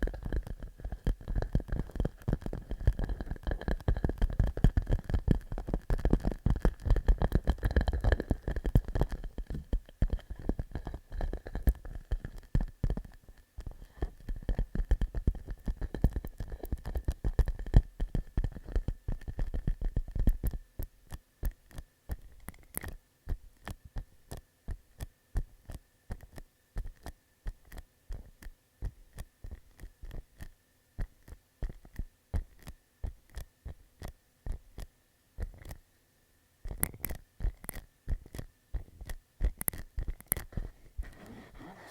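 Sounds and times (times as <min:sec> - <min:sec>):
fingertips tapping on plastic pouch: 0:00.0 - 0:35.8, 0:36.7 - 0:41.9.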